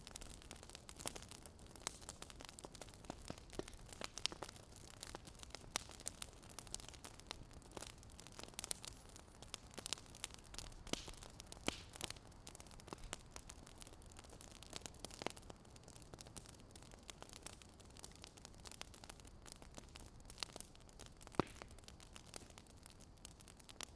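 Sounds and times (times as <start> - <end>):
fire crackling: 0.0 - 23.9.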